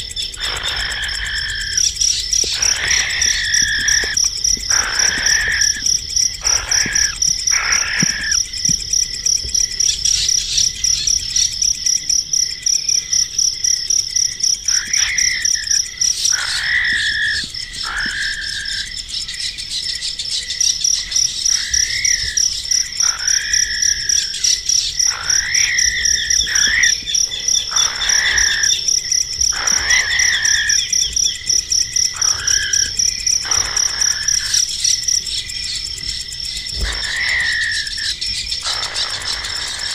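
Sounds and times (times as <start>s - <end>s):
insect trilling: 0.0s - 39.9s.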